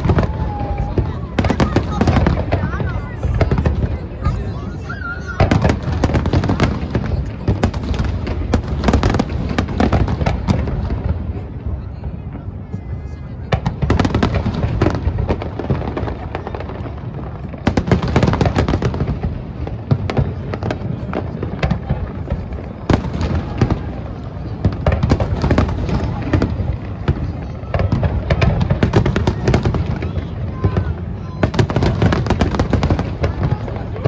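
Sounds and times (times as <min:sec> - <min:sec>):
fireworks cracks and booms: 0:00.0 - 0:34.0
rumble of distant detonations: 0:05.3 - 0:34.0.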